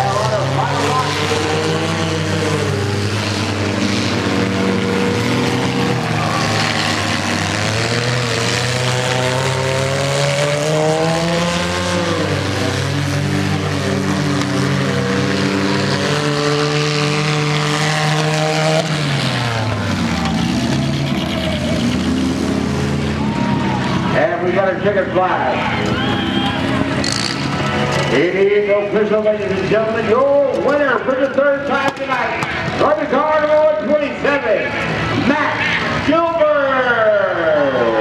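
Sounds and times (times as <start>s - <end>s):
small car engines revving: 0.0s - 38.0s.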